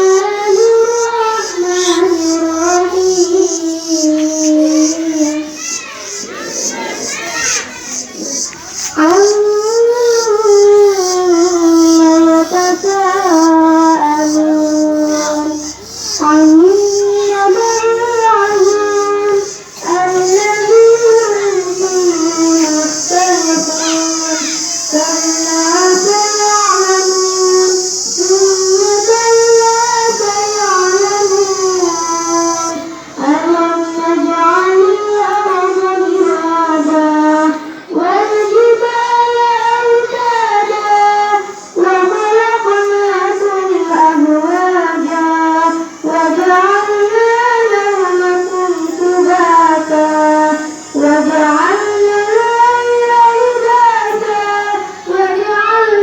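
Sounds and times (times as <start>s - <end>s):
girl chanting melodically: 0.0s - 56.0s
steady high hiss: 0.0s - 56.0s.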